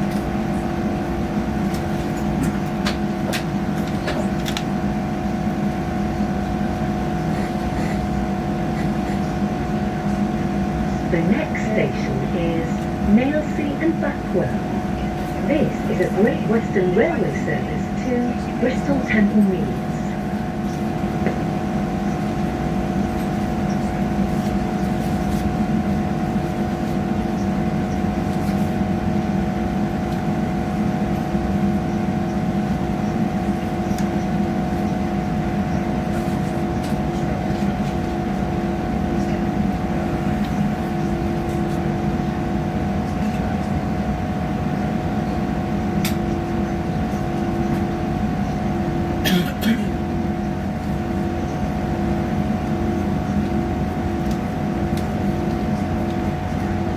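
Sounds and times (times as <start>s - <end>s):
rumble of train wheels: 0.0s - 56.9s.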